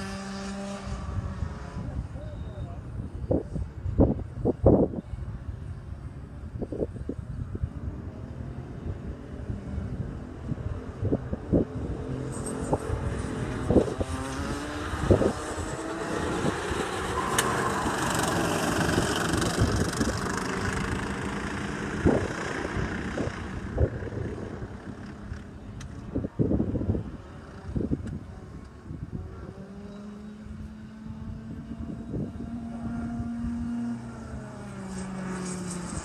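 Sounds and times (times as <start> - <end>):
racing kart engines accelerating: 0.0 - 4.1, 7.4 - 36.0.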